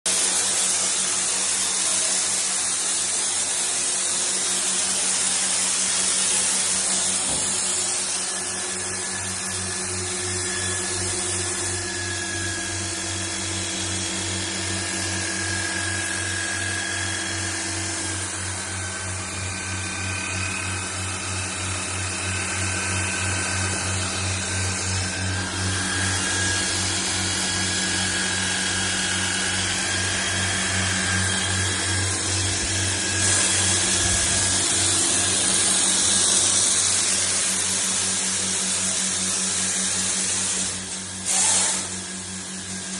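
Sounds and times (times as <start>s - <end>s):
electric power tool grinding: 0.1s - 42.9s.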